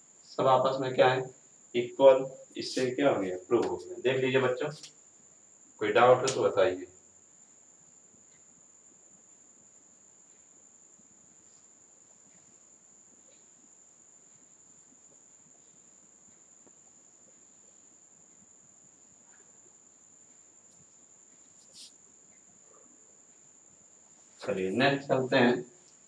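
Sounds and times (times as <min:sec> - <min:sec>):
faint high-pitched whine: 0:00.0 - 0:26.0.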